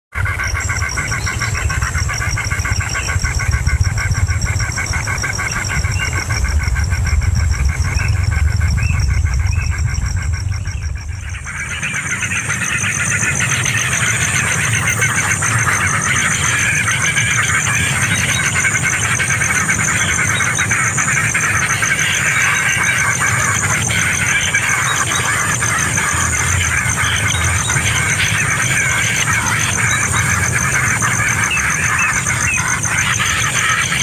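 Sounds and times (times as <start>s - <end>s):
steady low rumble: 0.2s - 34.0s.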